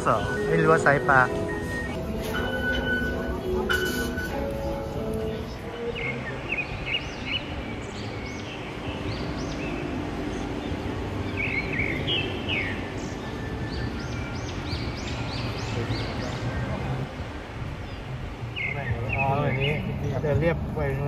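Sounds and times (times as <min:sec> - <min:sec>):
background din of plaza: 0:00.0 - 0:21.0
small birds chirping: 0:00.0 - 0:21.0.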